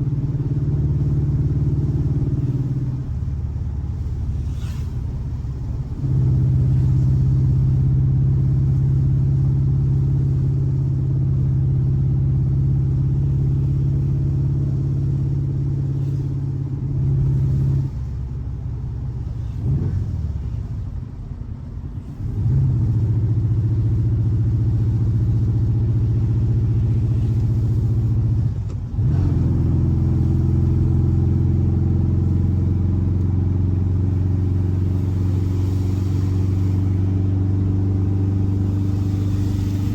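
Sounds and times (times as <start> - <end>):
air-cooled boxer engine running: 0.0 - 39.9.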